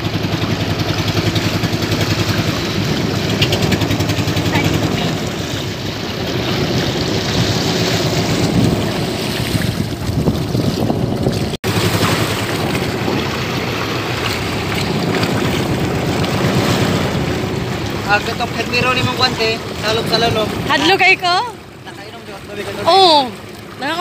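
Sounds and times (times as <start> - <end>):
boat engine running: 0.0 - 24.0
water splashing along hull: 0.0 - 24.0
wind buffeting microphone: 0.1 - 21.6.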